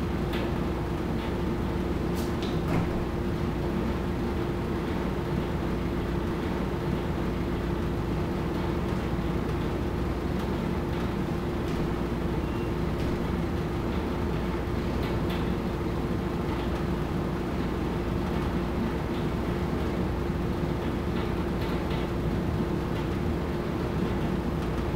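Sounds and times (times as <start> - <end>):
mechanical hum and rumble: 0.0 - 24.9.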